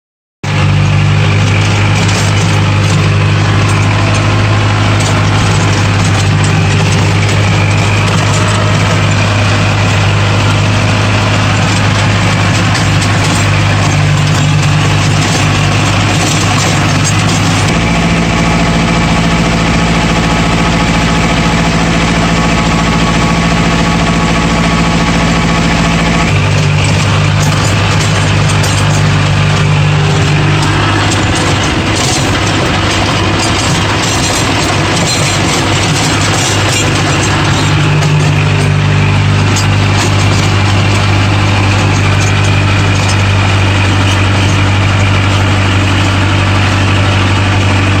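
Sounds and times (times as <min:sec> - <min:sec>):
tractor diesel engine running: 0:00.4 - 0:48.0.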